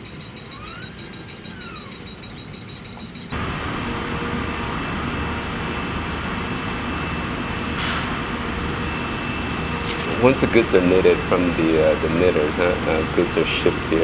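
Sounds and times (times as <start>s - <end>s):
factory machinery din: 0.0s - 14.0s
faint constant hum: 0.0s - 14.0s.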